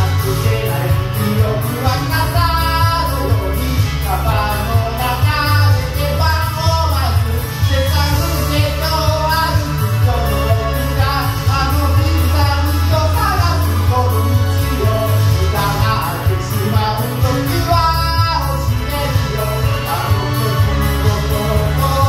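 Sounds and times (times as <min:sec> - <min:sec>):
man singing into microphone: 0:00.0 - 0:22.0
rock backing track: 0:00.0 - 0:22.0.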